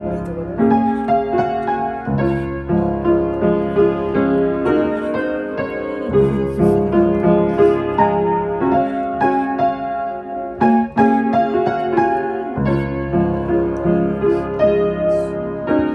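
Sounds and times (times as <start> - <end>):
gentle piano music: 0.0 - 15.9.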